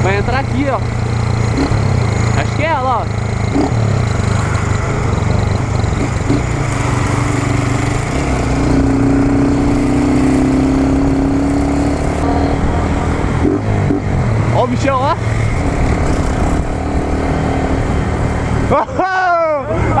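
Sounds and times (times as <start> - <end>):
motorcycle engines running: 0.0 - 20.0
higher steady engine note: 0.8 - 20.0.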